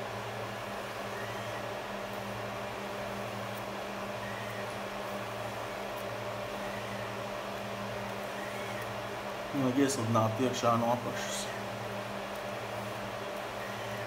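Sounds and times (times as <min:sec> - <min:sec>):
low motor hum and hiss: 0:00.0 - 0:14.0.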